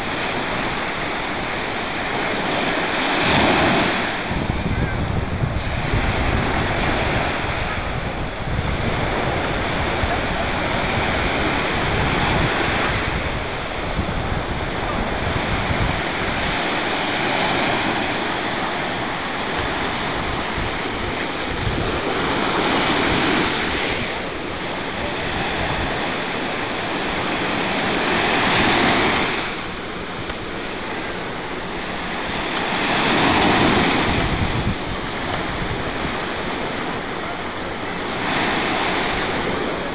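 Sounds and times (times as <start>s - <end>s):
sea waves breaking on beach: 0.0s - 39.9s
wind rumbling on microphone: 0.0s - 39.9s.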